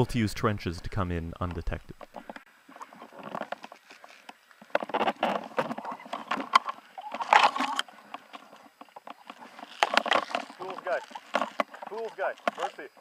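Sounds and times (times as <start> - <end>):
clothing and gear rustling: 2.0 - 13.0.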